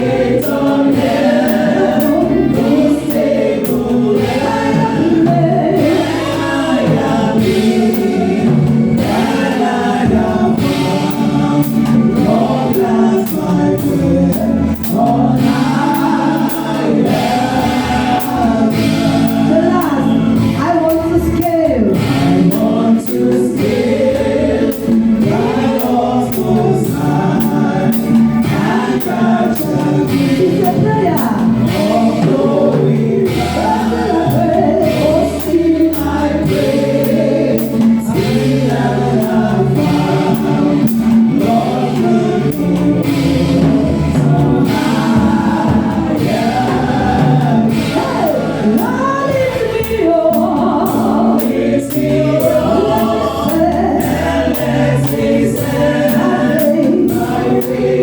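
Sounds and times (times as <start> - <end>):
band accompaniment: 0.0 - 58.0
choir and congregation singing hymn: 0.0 - 58.0.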